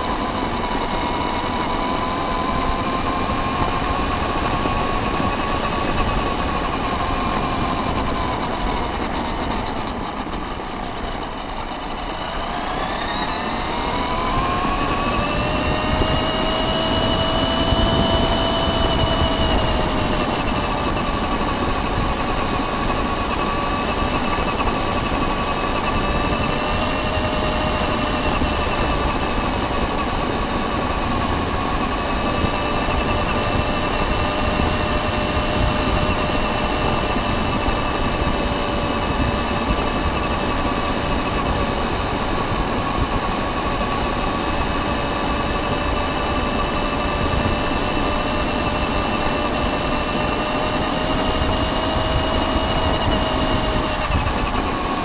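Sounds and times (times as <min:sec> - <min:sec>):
rc car motor whine: 0:00.0 - 0:55.0
wind: 0:00.0 - 0:55.0.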